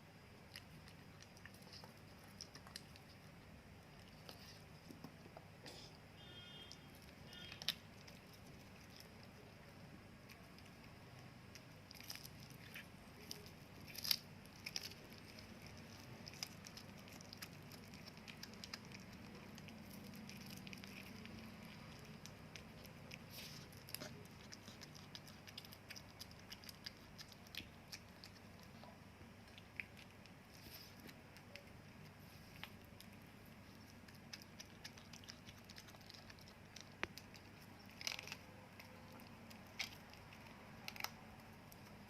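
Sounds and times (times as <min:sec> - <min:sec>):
cat chewing: 0:00.0 - 0:05.6, 0:06.3 - 0:42.0.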